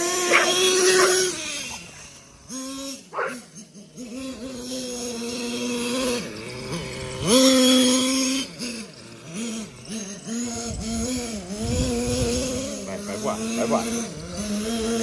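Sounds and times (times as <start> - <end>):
model engine buzzing at high revs: 0.0 - 15.0.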